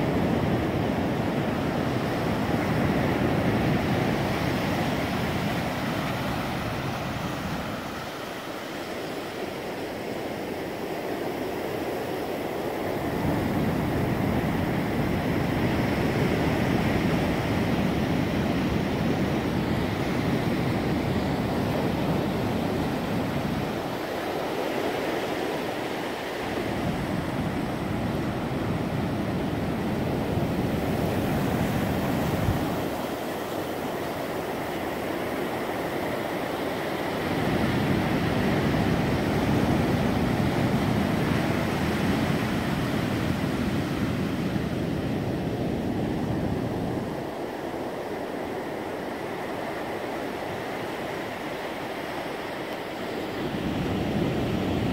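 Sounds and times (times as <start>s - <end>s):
wind rumbling on microphone: 0.0s - 54.9s.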